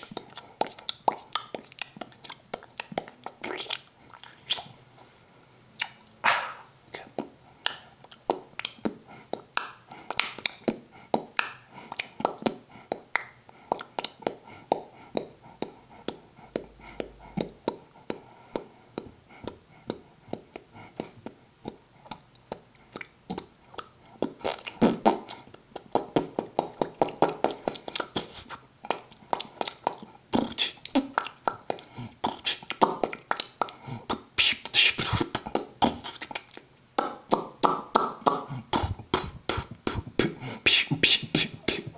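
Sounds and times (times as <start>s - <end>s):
person beatboxing: 0.0s - 4.7s, 5.8s - 41.9s.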